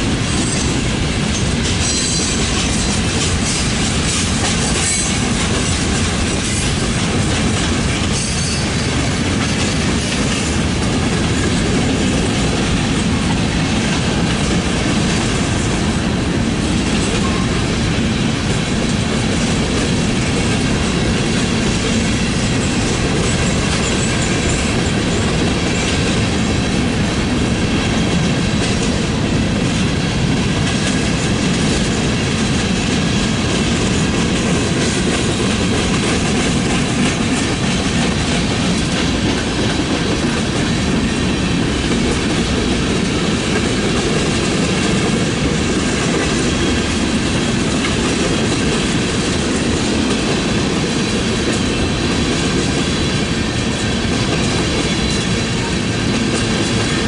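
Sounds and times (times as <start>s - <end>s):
clickety-clack over rail joints: 0.0s - 57.0s
freight train wheels rumbling: 0.0s - 57.0s.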